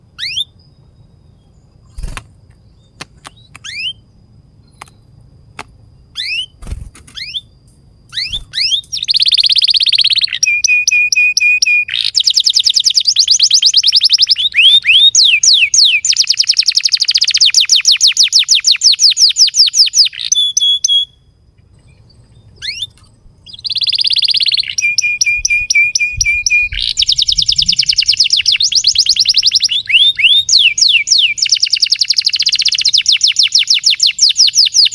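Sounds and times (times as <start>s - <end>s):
canary singing: 0.0s - 4.1s, 6.1s - 21.2s, 21.8s - 34.9s.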